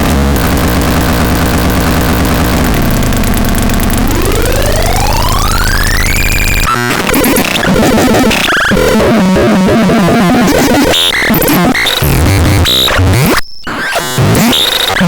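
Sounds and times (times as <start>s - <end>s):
glitchy electronic sounds: 0.0s - 15.0s.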